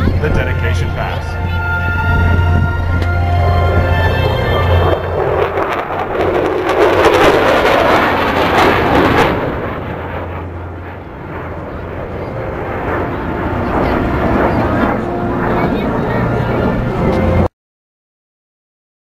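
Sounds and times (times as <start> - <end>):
fighter jet flyby roar: 0.0 - 17.5.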